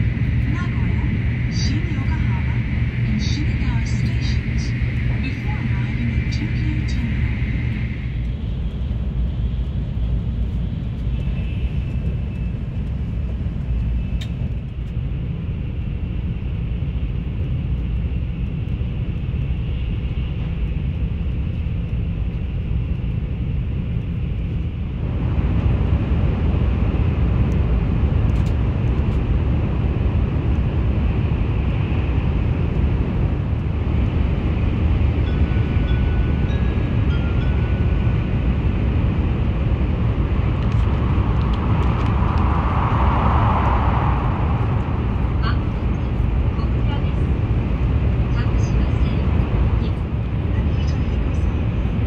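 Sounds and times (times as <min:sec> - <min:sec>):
train rumble from inside: 0:00.0 - 0:52.0.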